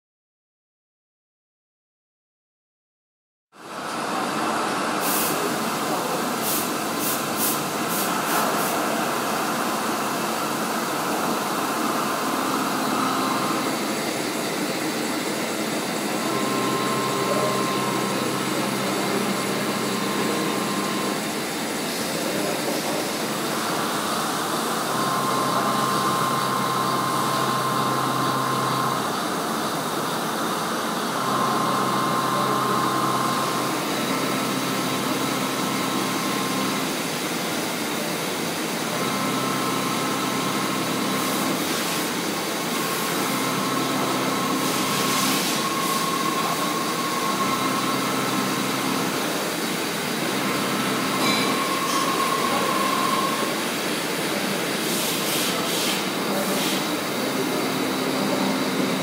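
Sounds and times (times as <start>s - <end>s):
milling machine cutting metal: 4.7s - 59.0s.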